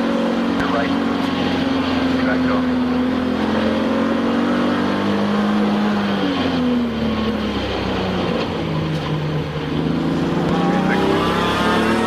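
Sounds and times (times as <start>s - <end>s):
race car engine revving: 0.0s - 12.0s
road and wind noise: 0.0s - 12.0s.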